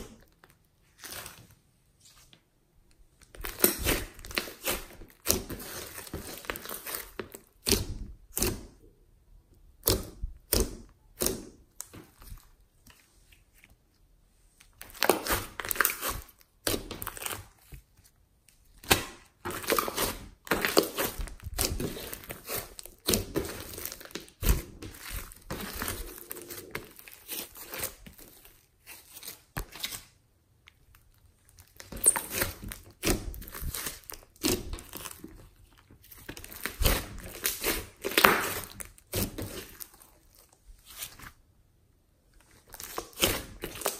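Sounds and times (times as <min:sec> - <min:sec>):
slime squelching and crackling: 0:00.0 - 0:08.8, 0:09.6 - 0:41.5, 0:42.3 - 0:43.9.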